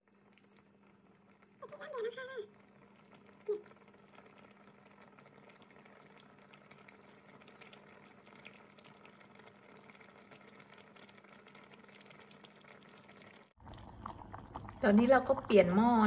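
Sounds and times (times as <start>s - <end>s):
curry bubbling and popping: 0.0s - 16.0s.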